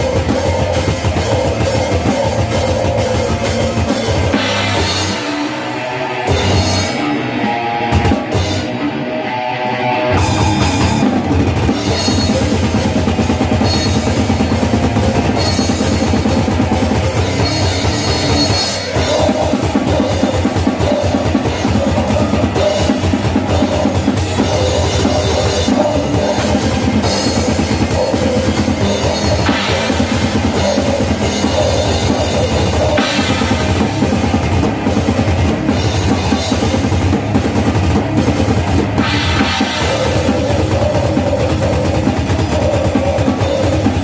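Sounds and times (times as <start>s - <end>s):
drum kit played hard: 0.0s - 44.0s
electric guitar: 0.0s - 44.0s.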